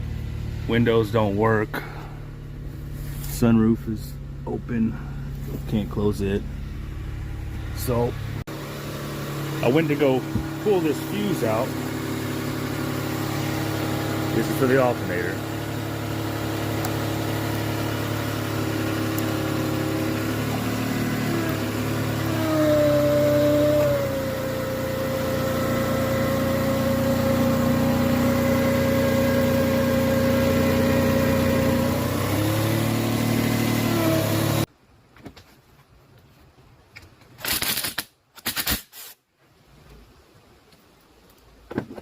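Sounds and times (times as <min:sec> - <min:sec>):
car engine idling: 0:00.0 - 0:34.7.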